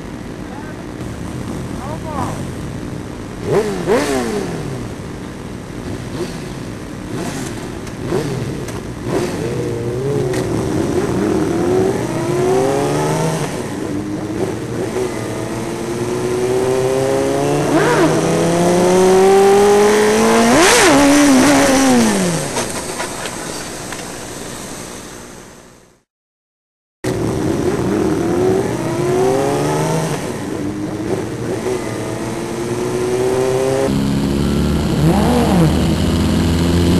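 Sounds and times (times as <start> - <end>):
motorcycle engine revving: 0.3 - 23.4, 27.1 - 36.9.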